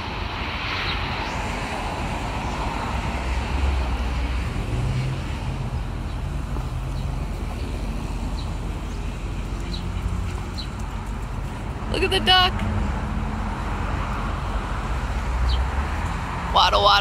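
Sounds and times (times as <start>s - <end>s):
passing vehicle engine hum: 0.0s - 17.0s
traffic rumble: 0.0s - 17.0s.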